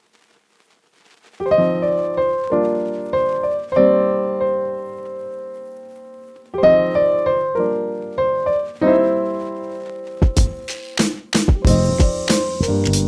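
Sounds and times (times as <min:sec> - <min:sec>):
piano chords ringing: 0:01.4 - 0:10.7, 0:11.5 - 0:13.0.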